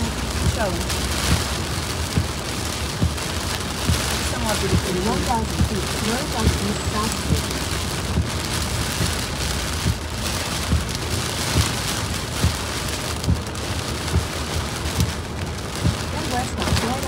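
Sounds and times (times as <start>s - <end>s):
heavy rain on a moving car: 0.0s - 17.0s
low thumps: 0.0s - 17.0s.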